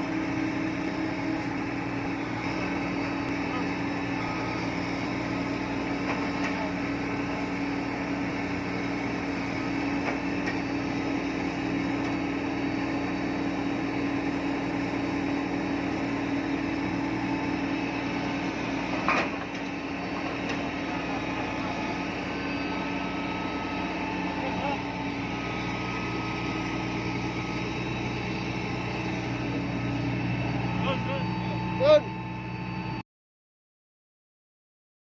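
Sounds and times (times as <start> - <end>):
drill rig engine drone: 0.0 - 33.0.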